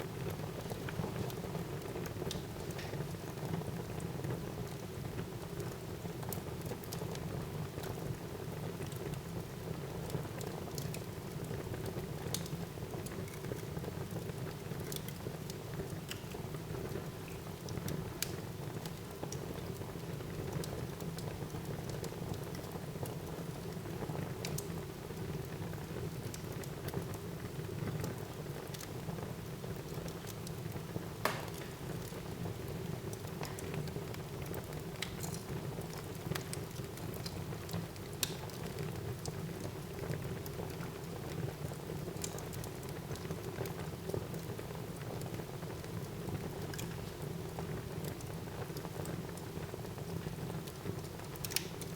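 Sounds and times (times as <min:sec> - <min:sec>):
fire crackles and pops: 0:00.1 - 0:51.9.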